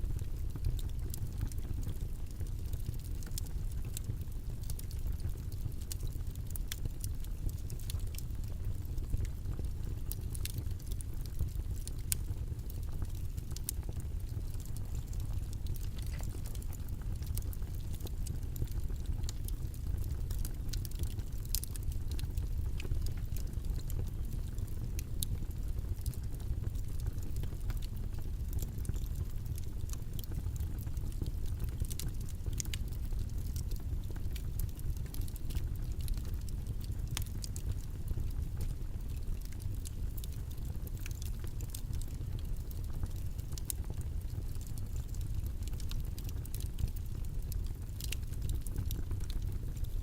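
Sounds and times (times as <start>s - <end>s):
faint small clicks and crackles: 0.0s - 50.0s
low rumbling background noise: 0.0s - 50.0s.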